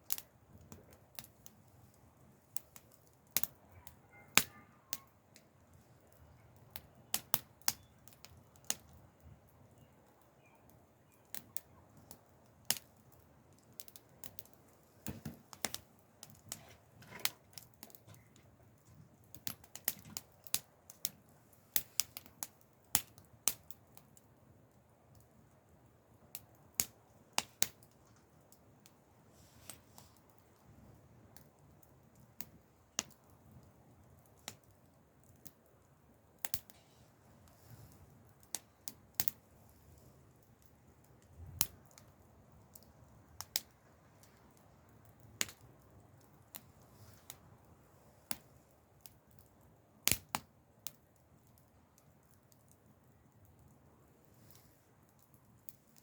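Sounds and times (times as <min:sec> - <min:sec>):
low rumble of burning: 0:00.0 - 0:56.0
wood fire crackling and popping: 0:00.0 - 0:56.0.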